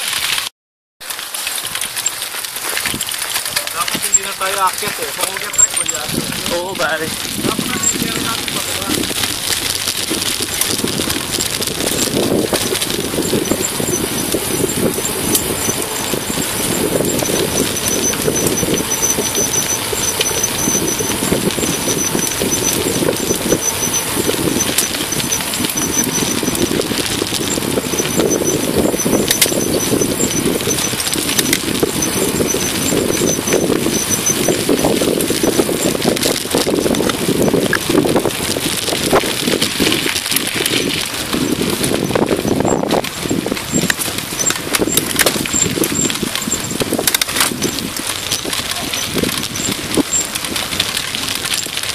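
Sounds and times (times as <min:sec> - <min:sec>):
bike tyres rumbling over gravel: 0:00.0 - 0:51.9
wind noise on microphone: 0:01.6 - 0:51.9.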